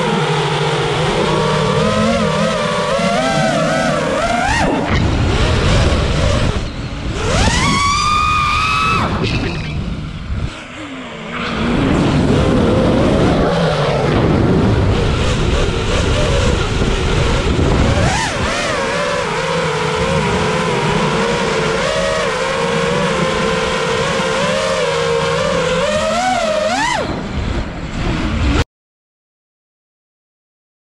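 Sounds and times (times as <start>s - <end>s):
drone motors whining: 0.0s - 28.6s.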